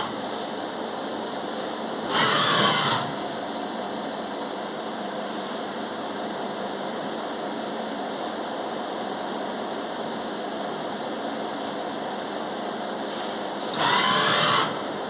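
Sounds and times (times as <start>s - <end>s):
machine running steadily: 0.0s - 15.0s.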